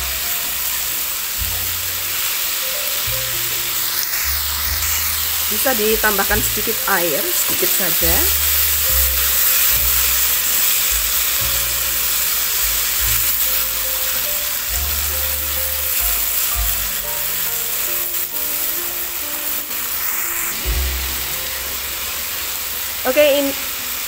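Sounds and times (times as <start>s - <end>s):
background music with bass line: 0.0s - 7.0s, 8.0s - 19.5s, 20.3s - 22.8s
vegetables sizzling in a wok: 0.0s - 24.0s.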